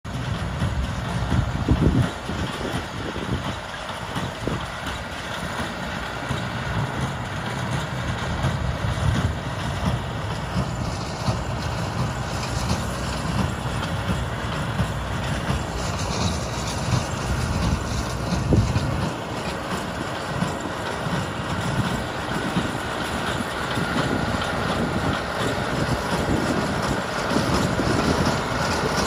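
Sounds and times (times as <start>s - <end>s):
tractor and baler rumbling: 0.1s - 29.0s.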